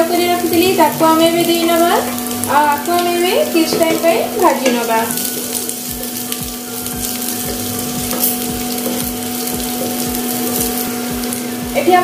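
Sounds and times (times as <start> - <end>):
food sizzling in oil: 0.0 - 12.0
steady hum: 0.0 - 12.0
wooden spatula stirring in pan: 0.0 - 12.0.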